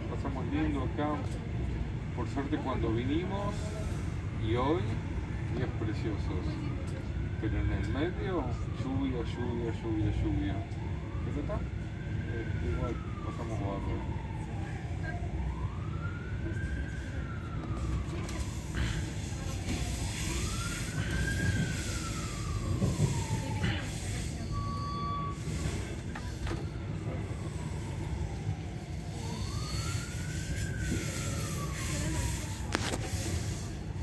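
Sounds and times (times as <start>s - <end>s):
moving train rumble: 0.0s - 34.0s
siren wailing: 5.2s - 34.0s.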